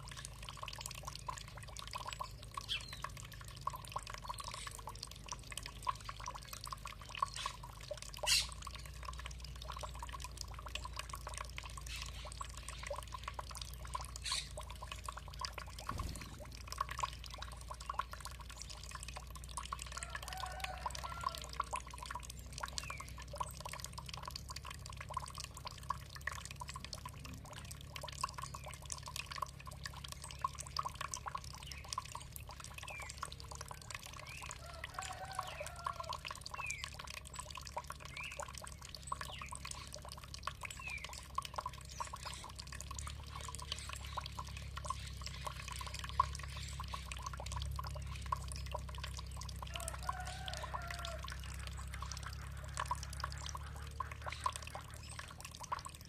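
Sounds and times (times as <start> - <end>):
water dripping and trickling: 0.0 - 56.0.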